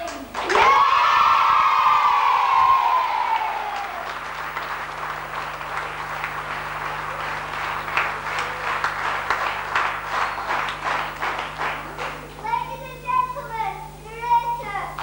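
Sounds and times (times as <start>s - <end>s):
steady low hum: 0.0s - 15.0s
audience applauding: 0.1s - 12.5s.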